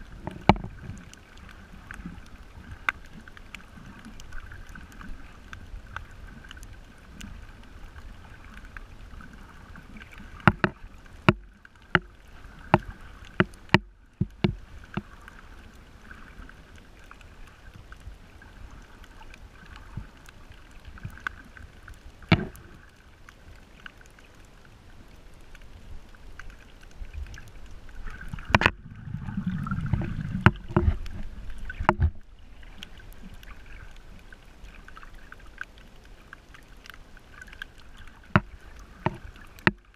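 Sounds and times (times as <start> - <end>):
underwater rush of water: 0.0 - 39.9
sharp underwater clicks: 0.1 - 8.8, 9.9 - 39.9.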